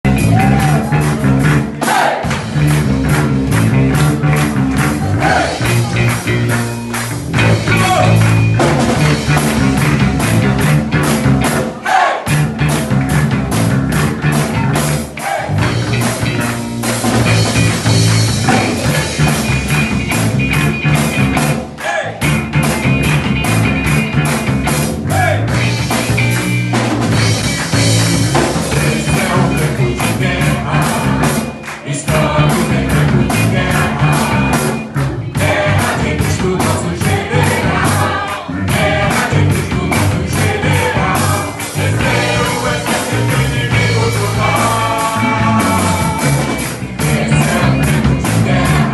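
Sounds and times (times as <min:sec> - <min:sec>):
drum kit fast beat: 0:00.0 - 0:48.9
voices singing: 0:00.1 - 0:13.0, 0:14.2 - 0:22.3, 0:25.0 - 0:48.9
electric guitar: 0:00.1 - 0:48.9.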